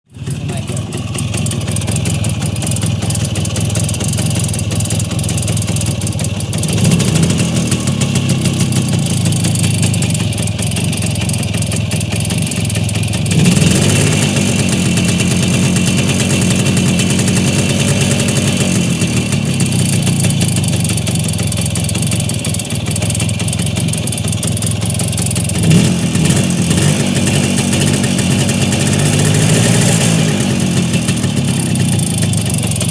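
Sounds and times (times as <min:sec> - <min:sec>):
engine knocking: 0:00.0 - 0:32.9
motorcycle engine idling and revving: 0:00.0 - 0:32.9.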